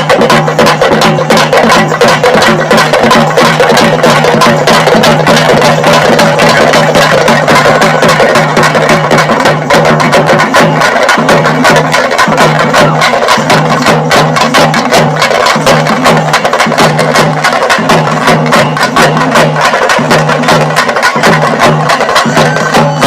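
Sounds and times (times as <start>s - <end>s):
percussion-driven music: 0.0s - 23.0s.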